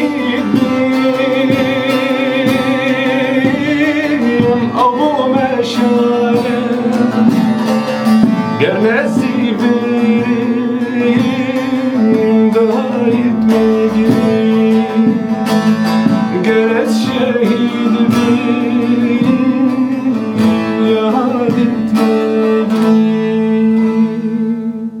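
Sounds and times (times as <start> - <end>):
plucked string melody: 0.0 - 25.0.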